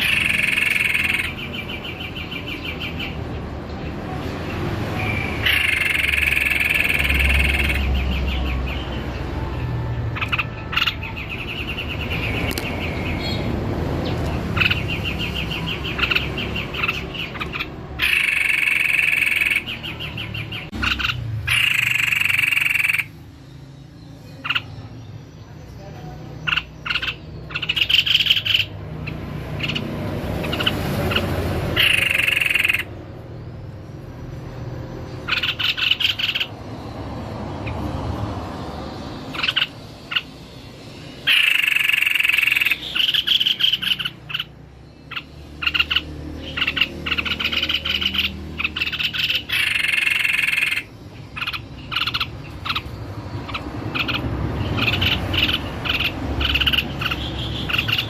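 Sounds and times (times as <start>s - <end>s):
bird rattling chattering song: 0.0s - 3.6s, 4.4s - 9.2s, 10.1s - 23.4s, 26.4s - 37.9s, 38.8s - 58.0s.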